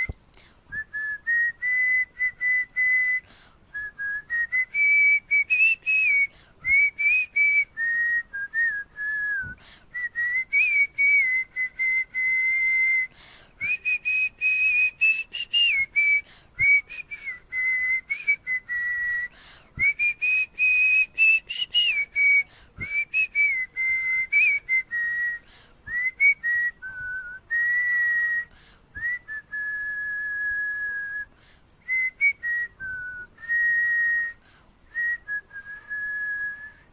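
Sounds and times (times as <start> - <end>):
person whistling a melody: 0.0 - 36.9.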